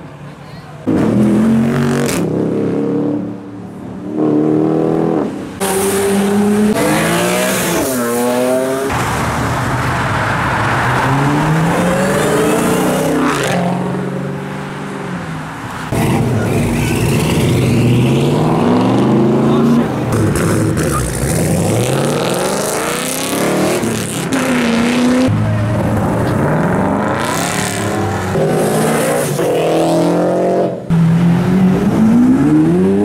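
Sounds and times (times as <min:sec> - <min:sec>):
cars accelerating hard: 0:00.8 - 0:33.0.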